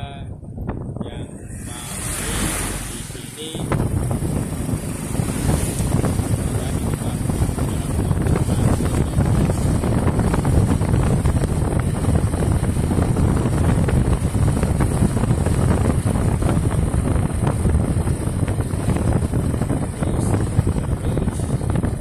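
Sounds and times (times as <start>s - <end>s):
road noise: 0.0s - 22.0s
vehicle engine rumble: 0.0s - 22.0s
wind buffeting microphone: 0.0s - 22.0s.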